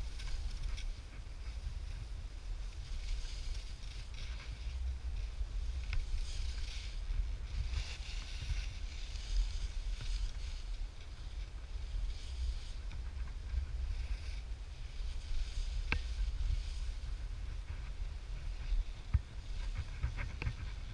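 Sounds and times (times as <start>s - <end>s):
skis hissing over packed snow: 0.0s - 20.9s
wind buffeting microphone: 0.0s - 20.9s.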